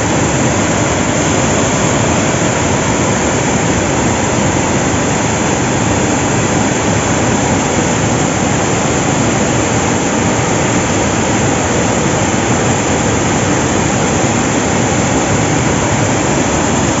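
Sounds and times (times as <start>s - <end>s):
water rushing over a dam: 0.0s - 17.0s.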